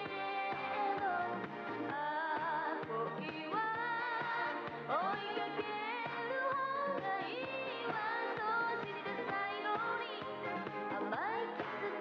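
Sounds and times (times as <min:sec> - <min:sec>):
upbeat pop band: 0:00.0 - 0:12.0
woman singing into microphone: 0:00.0 - 0:12.0.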